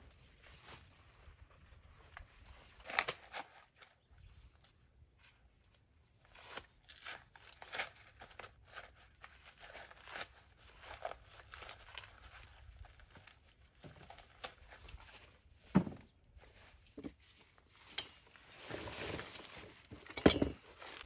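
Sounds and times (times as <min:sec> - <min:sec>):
dry corn stalks crunching: 0:00.0 - 0:21.0.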